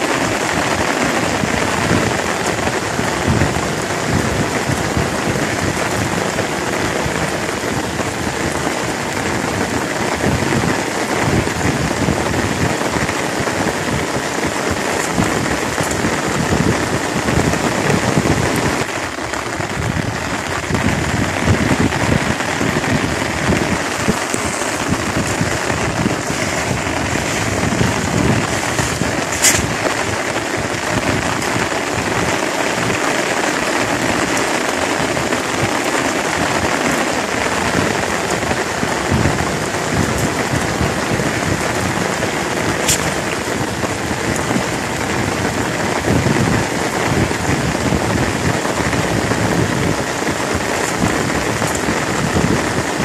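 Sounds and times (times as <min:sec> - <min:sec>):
rain falling on a pond: 0:00.0 - 0:53.0.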